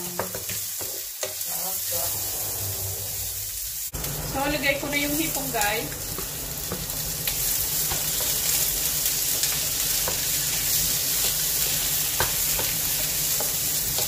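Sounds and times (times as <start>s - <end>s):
shrimp sizzling in a frying pan: 0.0s - 14.0s.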